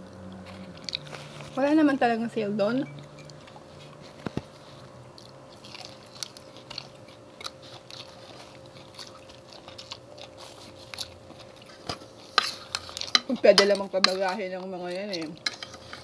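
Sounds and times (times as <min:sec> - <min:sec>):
people chewing fried chicken: 0:00.0 - 0:01.6, 0:02.9 - 0:16.0.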